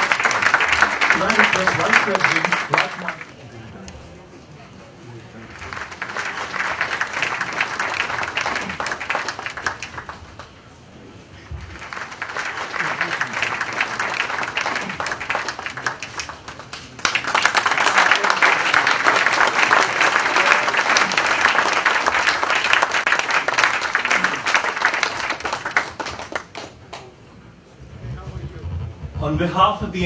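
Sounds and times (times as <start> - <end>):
audience applauding: 0.0 - 3.4, 5.4 - 10.6, 11.5 - 27.2.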